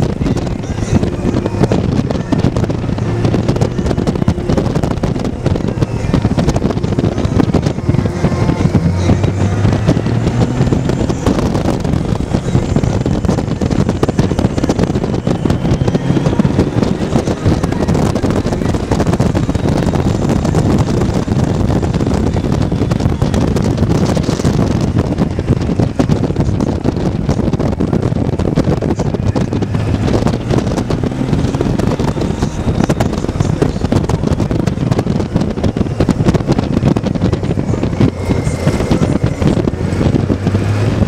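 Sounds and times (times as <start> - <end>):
motorcycle engine rumble: 0.0 - 41.0
wind rushing over microphone: 0.0 - 41.0.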